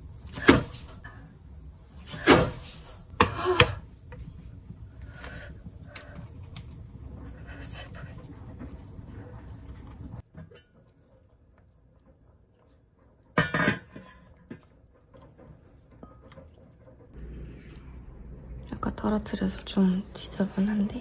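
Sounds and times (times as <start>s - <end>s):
low room rumble: 0.0s - 10.2s, 14.3s - 21.0s.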